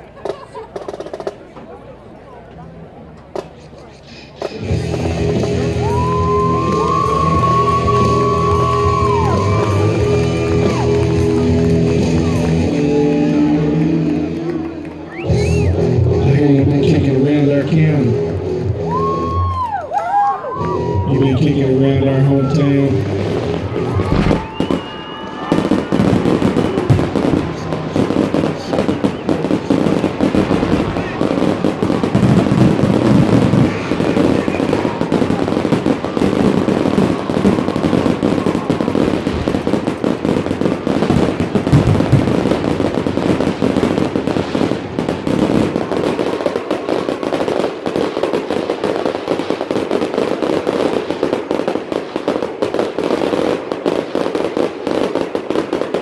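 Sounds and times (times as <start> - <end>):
fireworks bangs and crackles: 0.0 - 2.2, 2.8 - 56.0.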